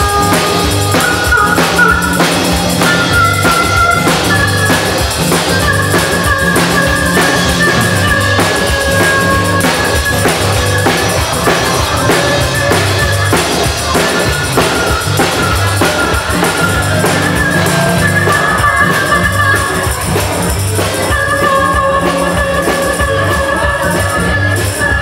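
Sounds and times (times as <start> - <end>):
harmonica solo: 0.0 - 25.0
rock drum beat: 0.0 - 25.0.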